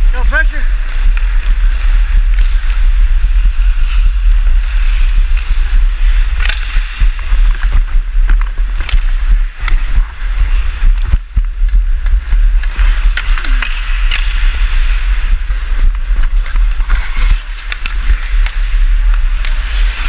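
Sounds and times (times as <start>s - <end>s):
ice skates scraping: 0.0s - 20.0s
wind rumble on microphone: 0.0s - 20.0s
hockey sticks and puck clacking: 0.1s - 20.0s.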